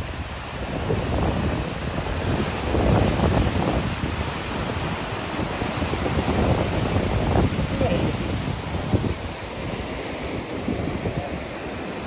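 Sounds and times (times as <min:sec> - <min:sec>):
ocean surf washing ashore: 0:00.0 - 0:12.0
wind buffeting microphone: 0:00.0 - 0:12.0.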